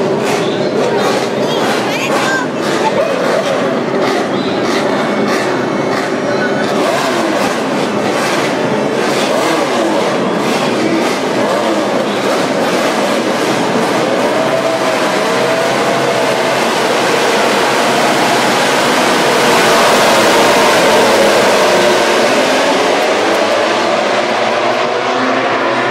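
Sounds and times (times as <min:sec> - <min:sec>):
racing motorcycle engines revving: 0:00.0 - 0:25.9.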